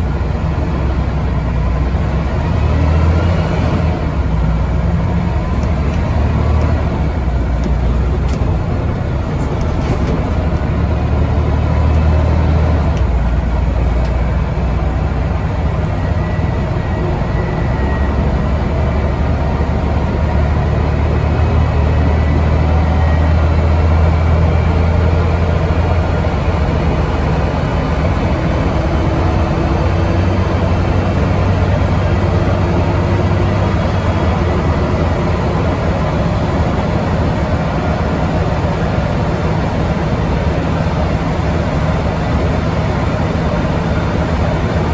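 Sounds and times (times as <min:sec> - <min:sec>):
bus diesel engine droning: 0:00.0 - 0:44.9.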